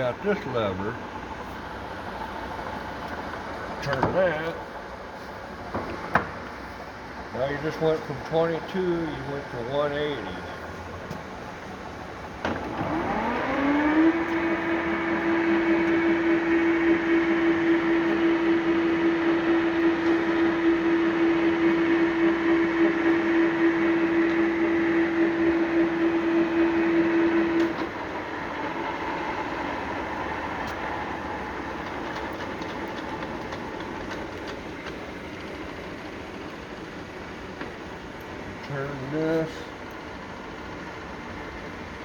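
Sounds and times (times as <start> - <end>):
lathe running with whine: 0.0 - 42.0
lathe coasting down: 7.2 - 42.0.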